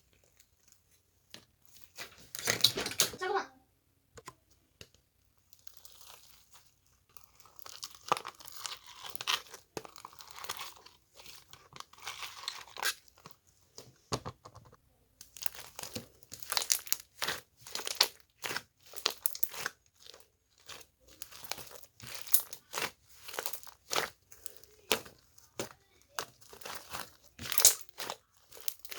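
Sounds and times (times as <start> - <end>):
crunching and crinkling crackles: 0.0 - 3.0, 5.4 - 14.0, 15.2 - 28.9.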